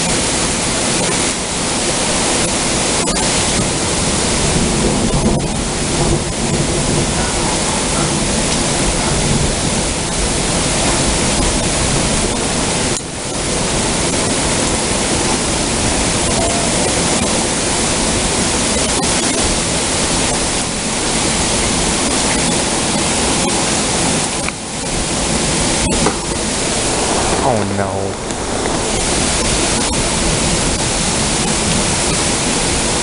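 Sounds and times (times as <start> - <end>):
heavy rain pouring: 0.0 - 18.8, 19.4 - 33.0.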